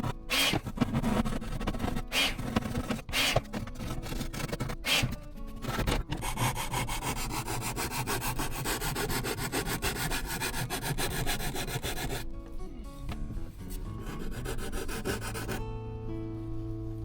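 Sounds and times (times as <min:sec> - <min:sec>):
sandpaper rubbing wood: 0:00.0 - 0:12.3, 0:13.8 - 0:15.6.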